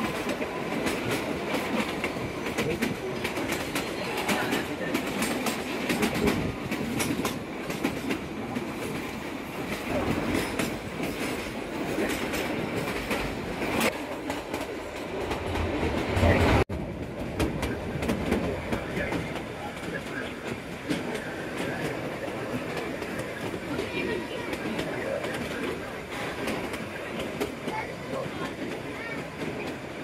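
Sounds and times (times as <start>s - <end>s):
train coach rattling: 0.0s - 30.0s.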